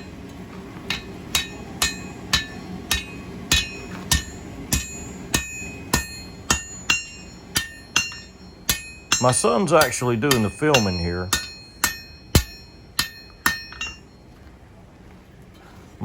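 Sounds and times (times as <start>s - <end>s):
steady low hum: 0.0s - 16.0s
hammer striking steel on anvil: 0.9s - 14.1s.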